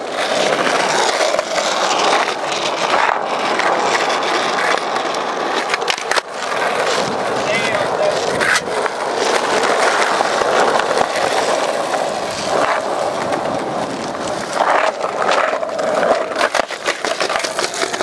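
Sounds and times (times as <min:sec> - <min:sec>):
skateboard clacks: 0:00.0 - 0:18.0
skateboard wheels rolling on asphalt: 0:00.0 - 0:18.0.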